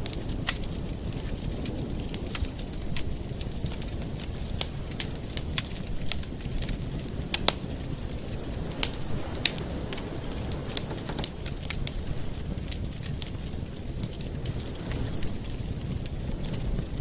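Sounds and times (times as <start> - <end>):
campfire crackling and popping: 0.0 - 17.0
low rush of flames: 0.0 - 17.0.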